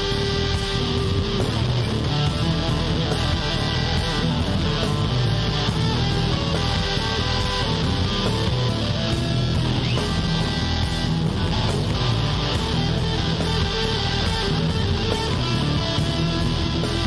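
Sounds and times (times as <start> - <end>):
blues-rock music with guitar: 0.0 - 17.0.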